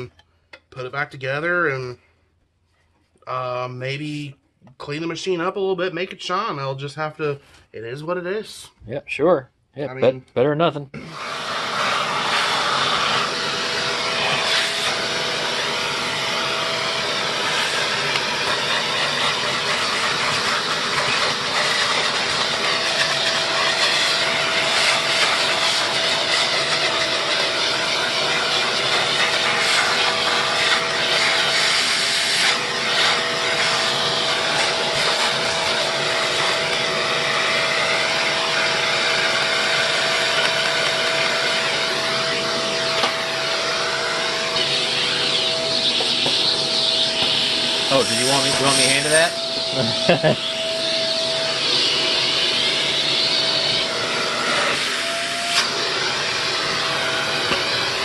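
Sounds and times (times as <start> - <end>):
vacuum cleaner running: 11.0 - 58.0.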